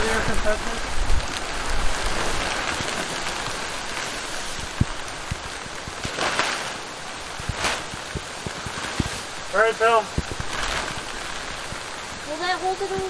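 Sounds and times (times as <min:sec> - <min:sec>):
heavy raindrops tapping: 0:00.0 - 0:13.0
steady rain hiss: 0:00.0 - 0:13.0.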